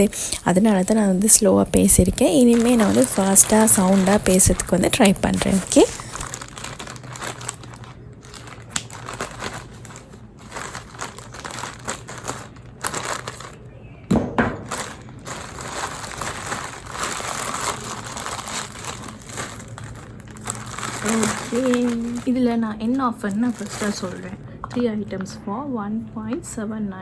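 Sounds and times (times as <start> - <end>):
plastic packaging crinkling: 2.0 - 25.4.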